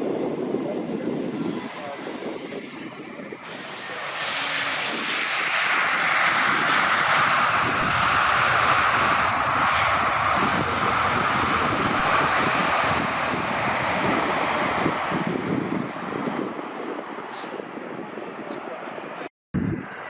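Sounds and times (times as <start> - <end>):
jet engines running with whine: 0.0 - 20.0.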